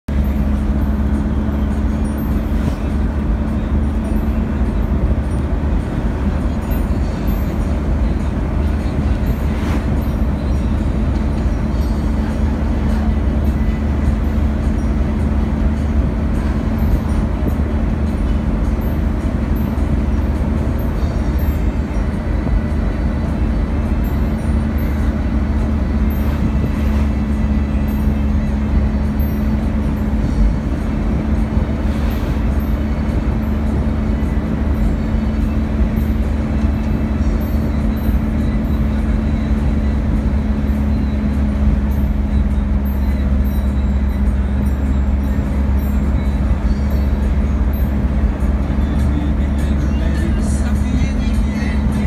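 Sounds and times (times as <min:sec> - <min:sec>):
vehicle engine and road noise: 0:00.0 - 0:52.0.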